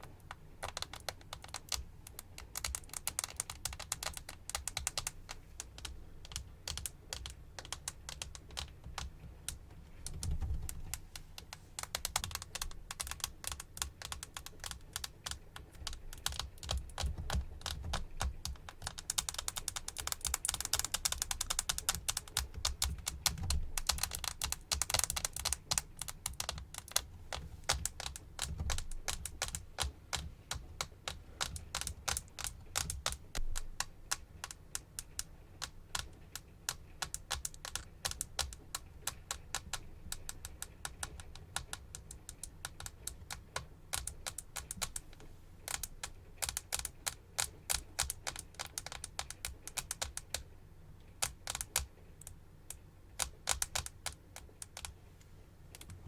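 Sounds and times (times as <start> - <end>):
fast tapping clicks: 0.0 - 50.5, 51.2 - 55.0.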